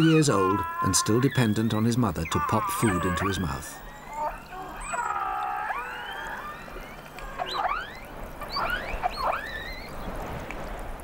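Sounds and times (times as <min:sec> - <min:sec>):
killer whales calling underwater: 0:00.0 - 0:10.1.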